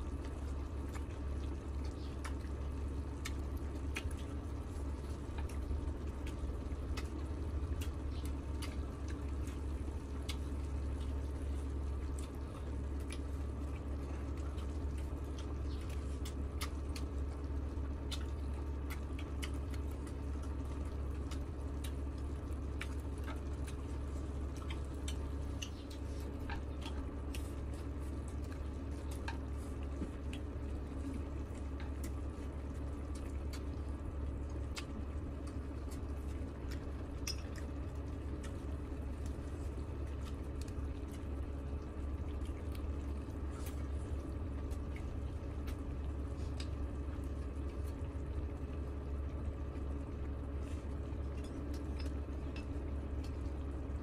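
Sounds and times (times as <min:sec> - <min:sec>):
steady low hum: 0:00.0 - 0:54.0
wet chewing and lip smacking: 0:00.1 - 0:54.0.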